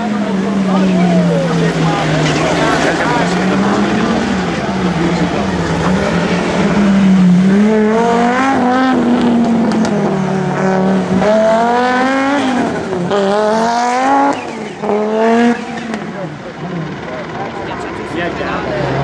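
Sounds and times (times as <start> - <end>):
rally car engine accelerating: 0.0 - 19.0.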